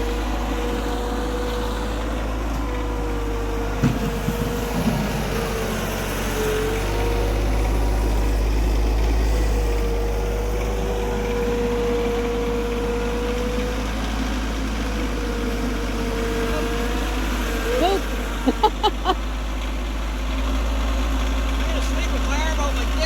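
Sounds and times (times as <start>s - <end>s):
engine running with whine: 0.0s - 23.0s.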